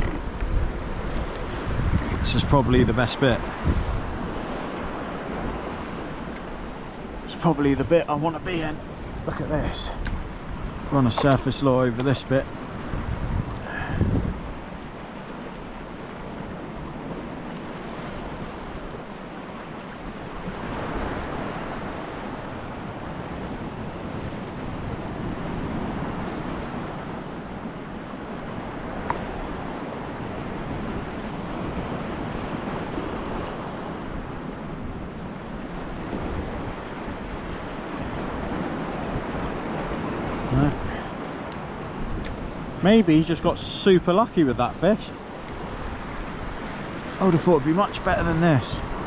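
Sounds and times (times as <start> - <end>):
wind buffeting microphone: 0.0 - 43.8, 44.5 - 49.0
sea water lapping: 0.0 - 49.0.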